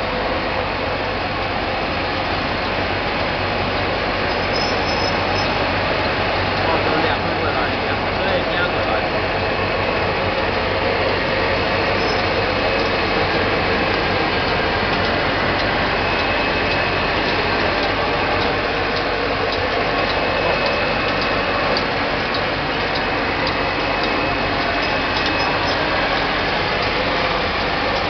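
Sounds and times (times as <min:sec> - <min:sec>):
machine steady mechanical noise: 0:00.0 - 0:28.0.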